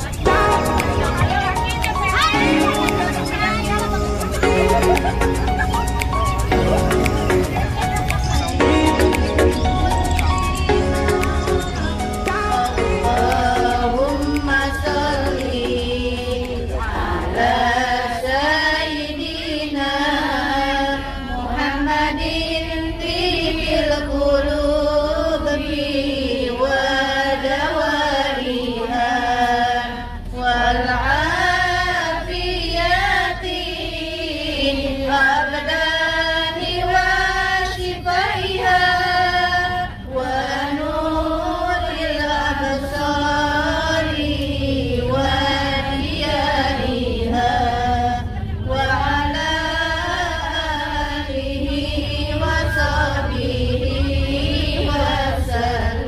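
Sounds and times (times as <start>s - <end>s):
melodic devotional chanting: 0.0s - 56.0s.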